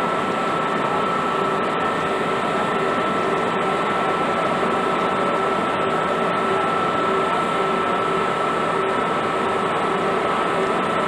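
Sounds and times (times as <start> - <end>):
locomotive cooling blowers whirring: 0.0 - 11.0.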